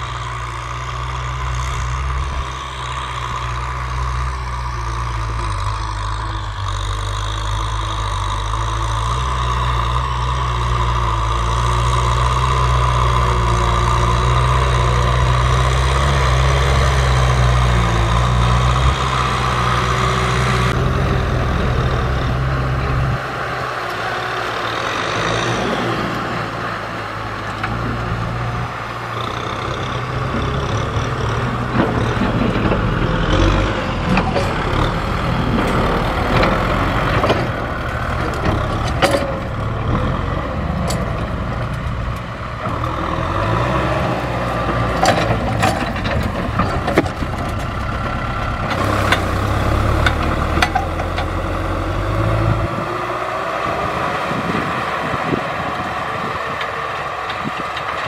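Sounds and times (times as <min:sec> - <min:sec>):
diesel tractor engine hum: 0:00.0 - 0:58.0.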